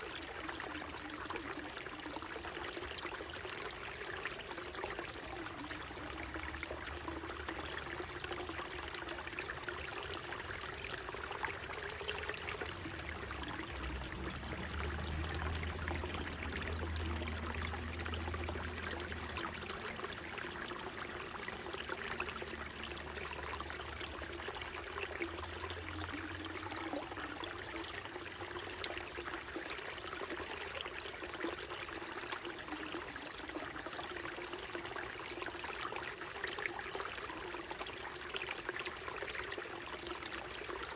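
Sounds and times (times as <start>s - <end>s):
stream splashing over rocks: 0.0s - 40.9s.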